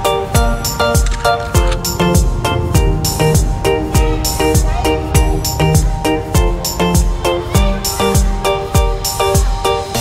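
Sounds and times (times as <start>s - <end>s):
background music with kick drum: 0.0s - 10.0s.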